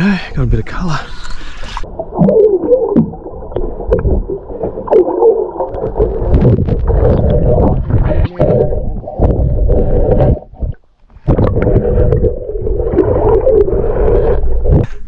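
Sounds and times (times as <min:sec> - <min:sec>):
muffled underwater rushing: 0:01.0 - 0:15.0.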